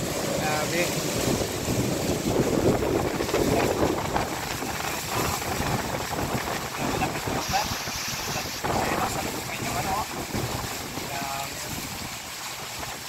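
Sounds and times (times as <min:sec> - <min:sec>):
heavy rain: 0:00.0 - 0:13.0
strong wind: 0:00.0 - 0:13.0
wind buffeting microphone: 0:00.0 - 0:13.0.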